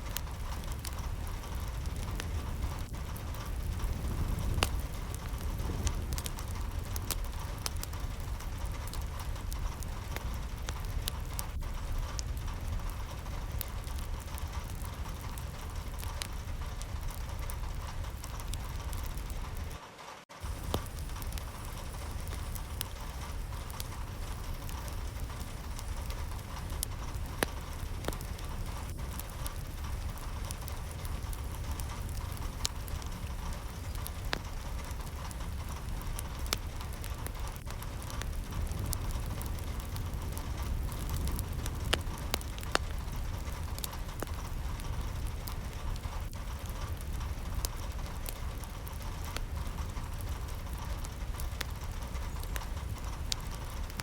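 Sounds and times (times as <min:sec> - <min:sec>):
deep low rumble: 0:00.0 - 0:19.8, 0:20.4 - 0:54.0
steady rain hiss: 0:00.0 - 0:54.0.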